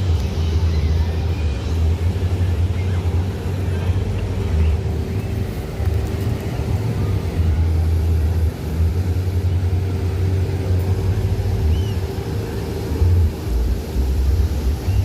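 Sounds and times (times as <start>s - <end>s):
low rumble: 0.0s - 15.0s
propeller airplane engine drone: 0.0s - 15.0s.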